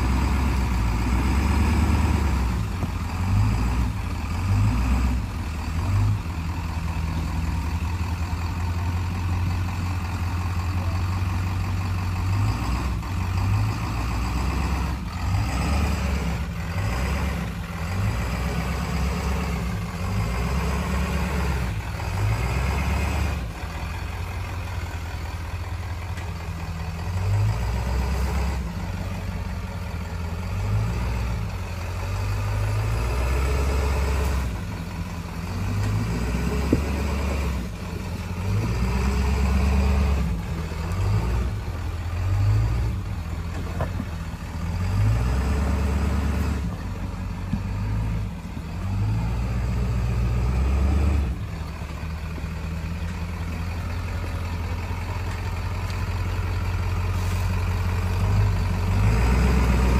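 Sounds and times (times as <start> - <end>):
off-road vehicle engine droning: 0.0 - 59.9.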